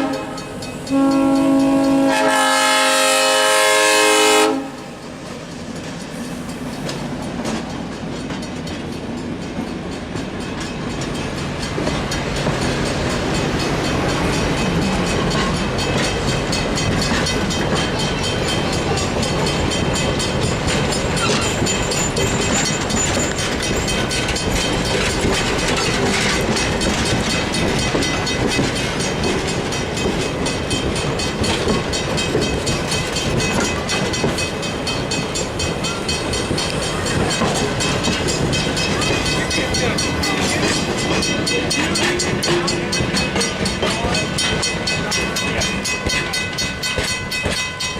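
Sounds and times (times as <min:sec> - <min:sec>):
train rumbling: 0:00.0 - 0:47.9
wheels clattering over rails: 0:05.4 - 0:47.9.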